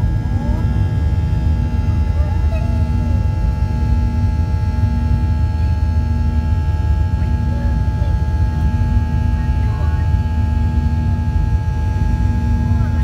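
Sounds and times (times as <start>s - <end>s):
airplane cabin engine rumble: 0.0s - 13.0s
jet engine whining tones: 0.0s - 13.0s.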